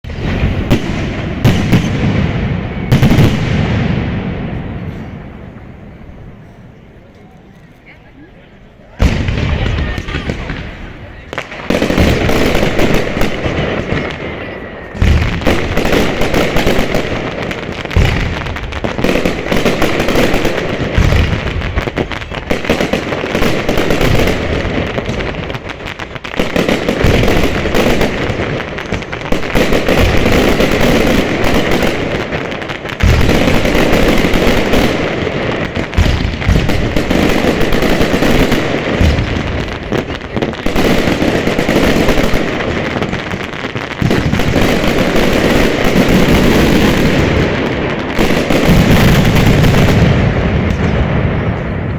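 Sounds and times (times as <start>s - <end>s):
fireworks booming: 0.0s - 7.0s, 8.9s - 51.9s
fireworks crackling and popping: 0.0s - 51.9s.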